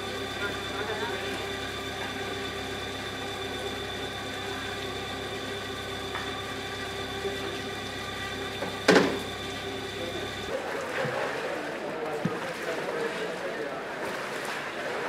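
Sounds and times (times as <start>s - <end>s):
pump engine drone and whine: 0.0s - 15.0s.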